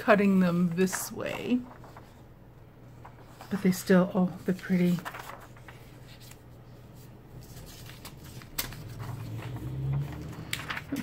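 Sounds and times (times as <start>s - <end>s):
paper sheets rustling: 0.0s - 11.0s.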